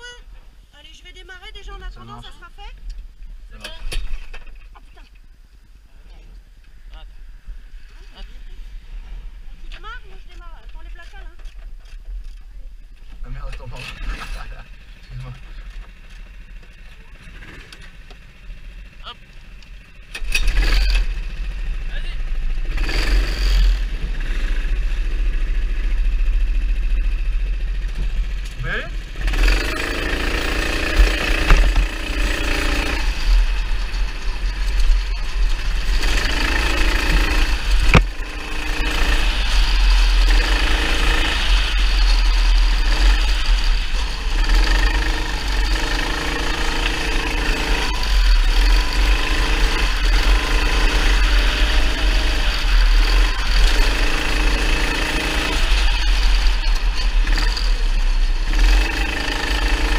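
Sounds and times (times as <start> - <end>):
go-kart engine running: 8.9 - 59.9.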